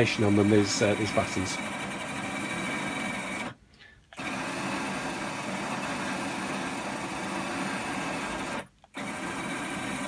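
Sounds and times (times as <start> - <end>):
motor and gears whirring: 0.0 - 3.6, 4.2 - 10.0.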